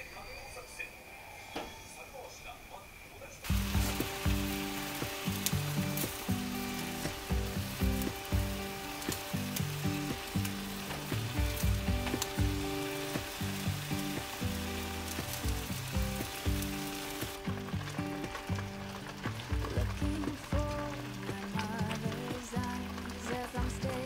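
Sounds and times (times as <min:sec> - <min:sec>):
slow background music: 0:00.0 - 0:24.0
pot simmering and sizzling: 0:03.4 - 0:24.0.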